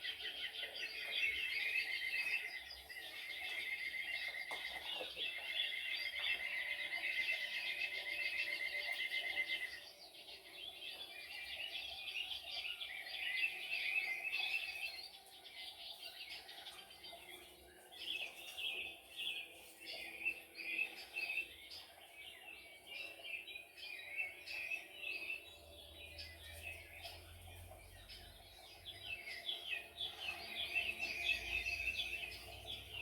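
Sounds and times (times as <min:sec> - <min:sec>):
birds chirping and singing: 0:00.0 - 0:33.0.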